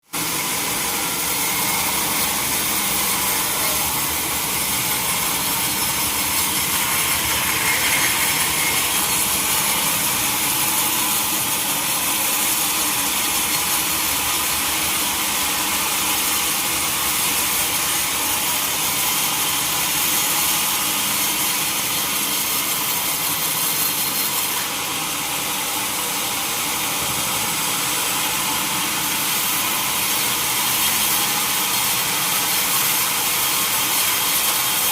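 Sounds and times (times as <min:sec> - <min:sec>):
sawmill saw cutting log: 0:00.0 - 0:34.9.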